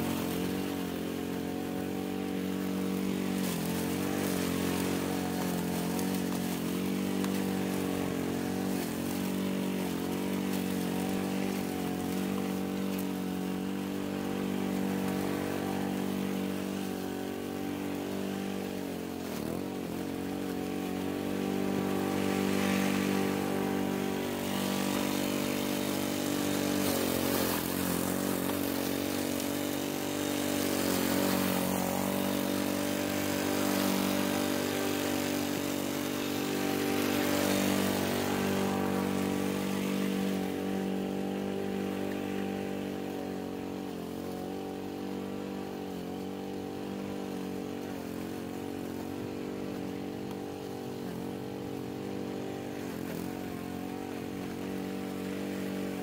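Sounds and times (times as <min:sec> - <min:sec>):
lawn mower cutting grass: 0:00.0 - 0:56.0.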